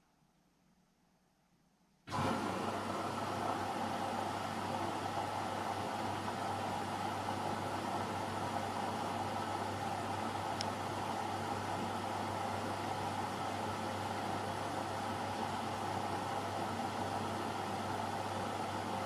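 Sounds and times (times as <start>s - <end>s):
washing machine whirring hum: 2.0s - 19.0s.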